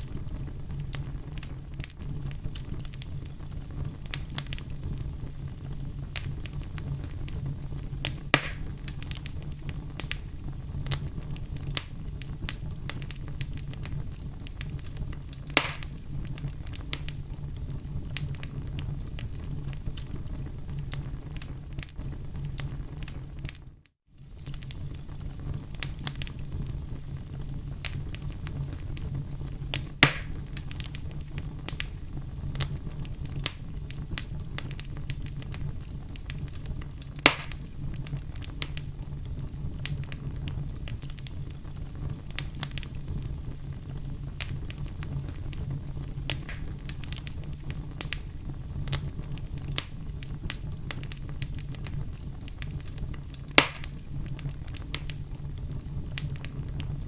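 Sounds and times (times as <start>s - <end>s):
loud sharp fire pops: 0.0s - 23.6s, 24.3s - 57.0s
fireplace fire crackling: 0.0s - 57.0s.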